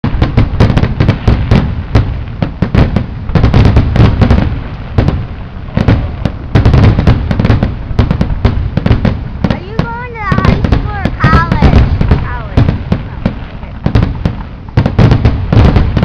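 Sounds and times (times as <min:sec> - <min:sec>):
continuous low rumble: 0:00.0 - 0:16.0
fireworks bursting and crackling: 0:00.0 - 0:16.0.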